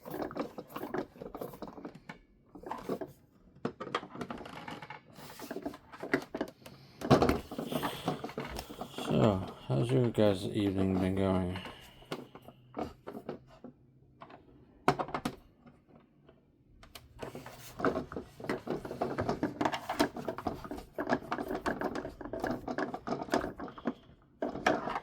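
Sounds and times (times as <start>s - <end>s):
plastic parts handled: 0.0s - 13.4s, 17.0s - 25.0s.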